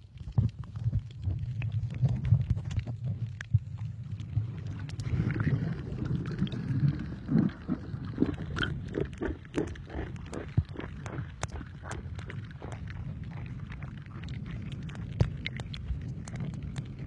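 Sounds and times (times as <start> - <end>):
underwater rumble of moving water: 0.0 - 17.0.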